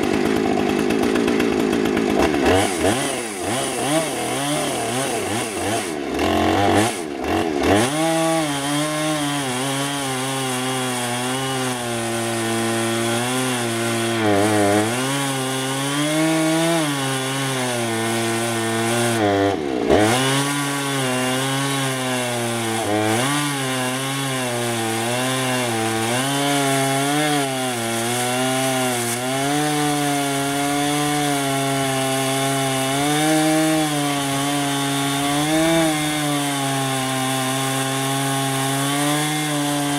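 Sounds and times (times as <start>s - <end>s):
chainsaw ripping through log: 0.0s - 39.9s.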